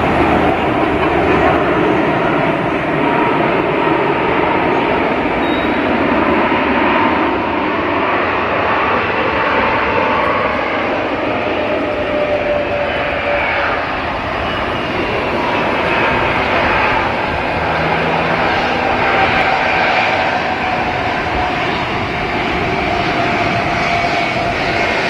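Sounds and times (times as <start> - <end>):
faint engine whine: 0.0 - 25.0
jet engines running: 0.0 - 25.0.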